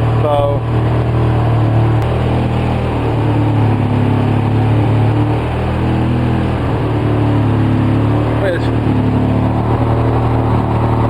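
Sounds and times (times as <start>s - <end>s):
engine idling roughly: 0.0s - 11.0s.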